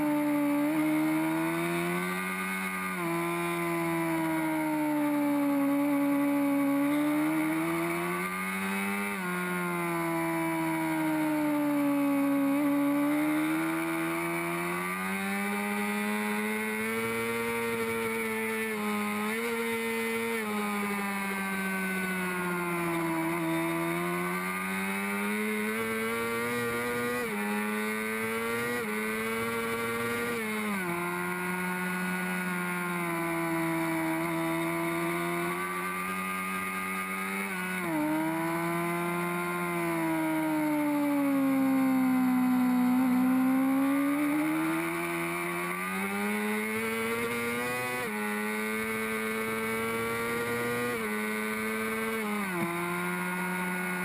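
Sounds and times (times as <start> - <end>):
motorcycle engine at racing revs: 0.0 - 54.0.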